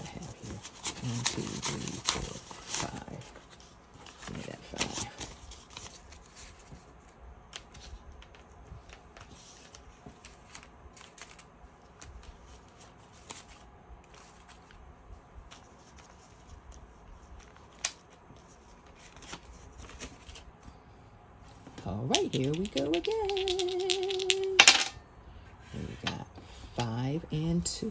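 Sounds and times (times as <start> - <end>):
paper banknotes rustling: 0.0 - 20.6, 21.5 - 24.9.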